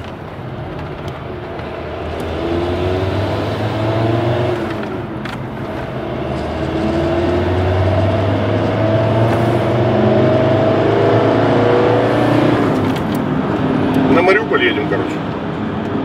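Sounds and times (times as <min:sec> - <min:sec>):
car engine accelerating: 0:00.0 - 0:16.0
road noise inside car: 0:00.0 - 0:16.0.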